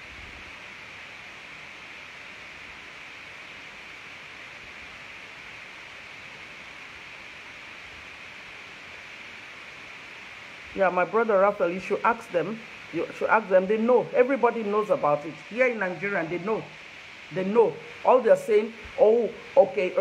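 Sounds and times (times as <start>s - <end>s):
room noise hiss: 0.0s - 20.0s.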